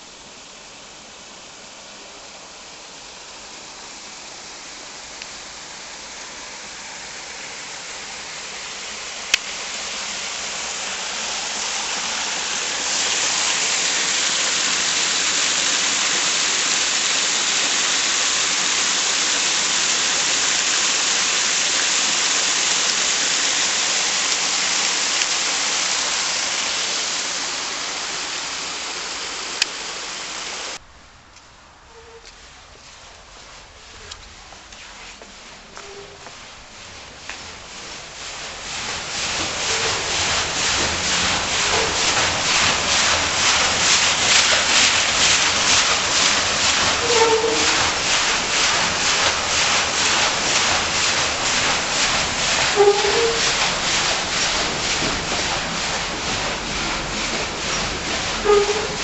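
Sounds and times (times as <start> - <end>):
water pouring over spillway: 0.0 - 30.9, 35.4 - 59.0.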